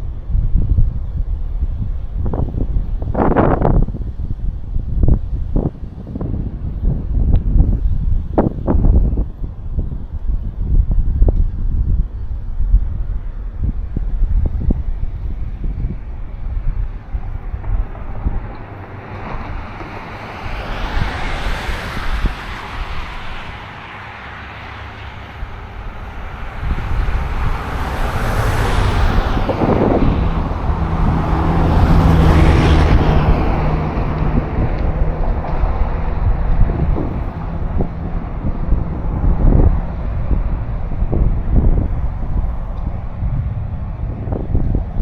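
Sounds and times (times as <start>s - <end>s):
low engine hum: 0.0s - 45.0s
tyre noise of passing vehicles: 0.0s - 45.0s
wind buffeting microphone: 0.0s - 45.0s.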